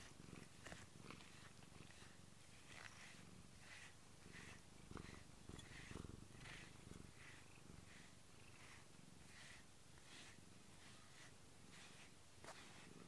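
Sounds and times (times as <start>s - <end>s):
brush strokes through fur: 0.0s - 13.0s
cat purring: 0.0s - 13.0s.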